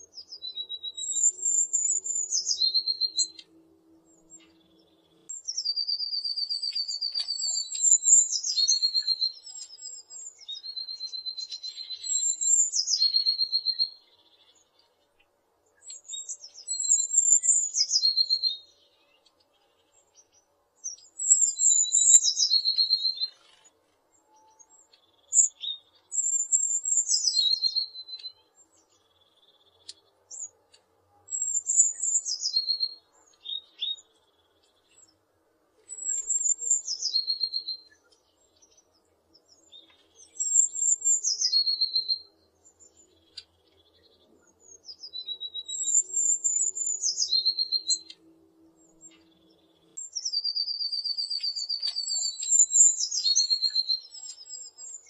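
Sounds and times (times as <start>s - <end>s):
bird singing high notes and trill: 0.0s - 14.9s, 15.8s - 19.4s, 20.2s - 30.6s, 31.3s - 35.1s, 35.9s - 38.8s, 39.4s - 55.0s.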